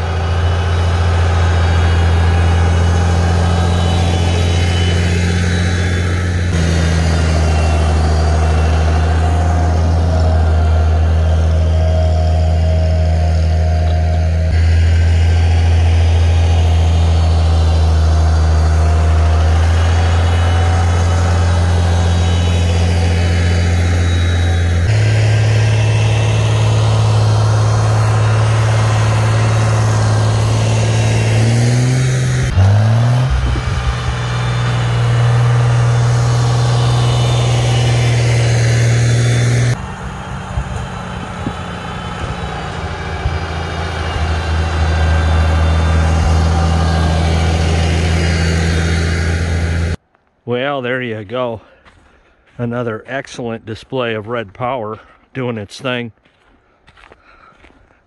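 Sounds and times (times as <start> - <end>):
tractor engine running under load: 0.0 - 50.0.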